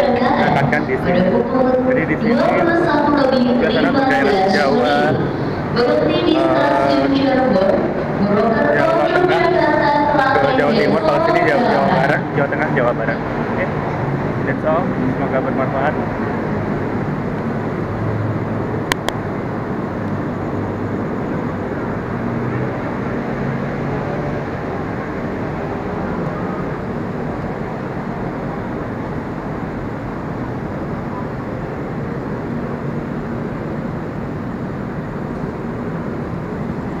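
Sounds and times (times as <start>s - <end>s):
low hum: 0.0s - 37.0s
railway platform ambience: 0.0s - 37.0s.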